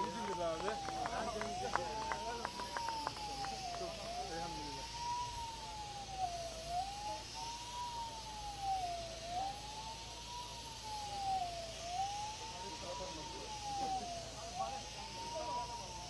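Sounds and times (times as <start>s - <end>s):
siren wailing: 0.0s - 16.0s.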